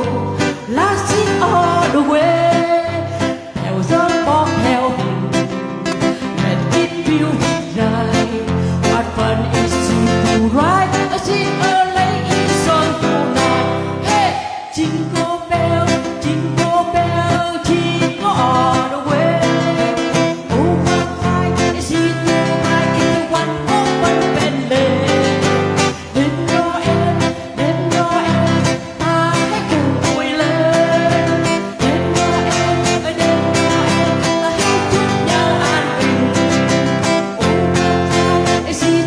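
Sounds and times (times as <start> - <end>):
guitar accompaniment: 0.0 - 39.0
person singing: 0.0 - 39.0.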